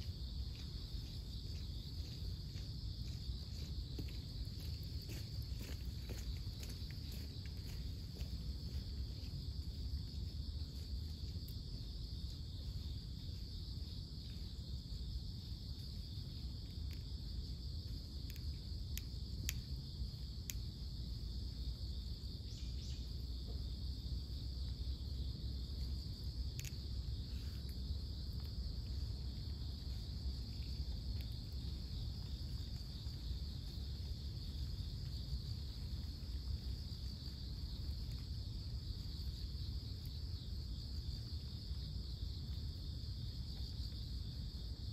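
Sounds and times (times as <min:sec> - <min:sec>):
insect chorus chirring: 0:00.0 - 0:44.9.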